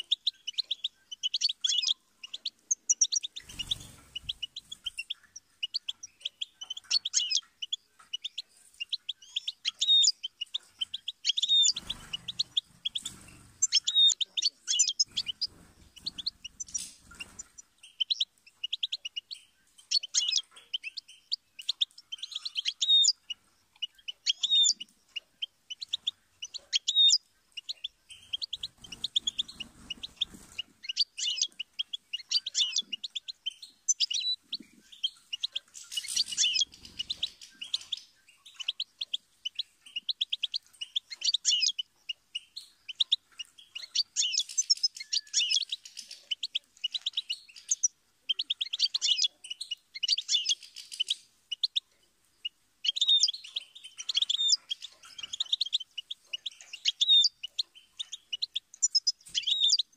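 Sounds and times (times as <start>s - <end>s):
goldfinch twittering song: 0.0s - 59.9s.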